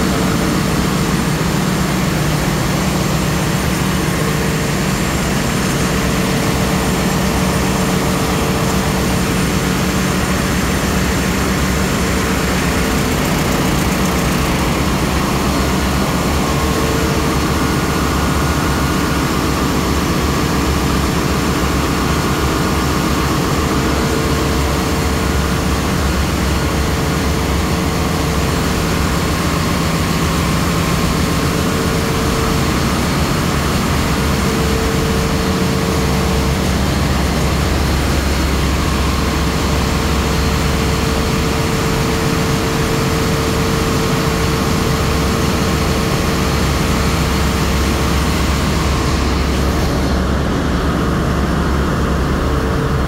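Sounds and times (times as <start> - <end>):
engine room machinery drone: 0.0 - 53.0.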